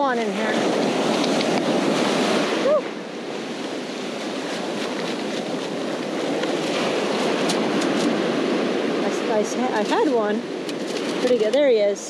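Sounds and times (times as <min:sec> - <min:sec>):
surf washing up beach: 0:00.0 - 0:12.0.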